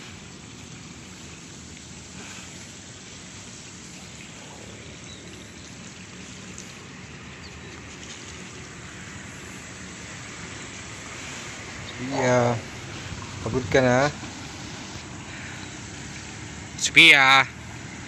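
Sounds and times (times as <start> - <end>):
steady rushing outdoor noise: 0.0 - 18.0.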